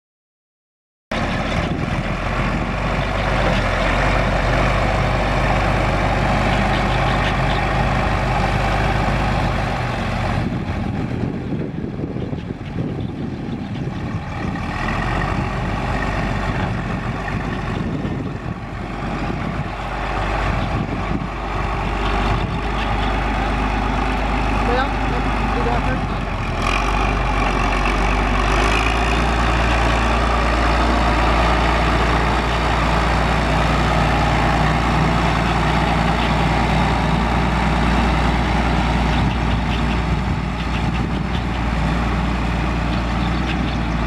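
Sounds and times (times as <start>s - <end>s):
tractor diesel engine running: 1.1s - 44.0s.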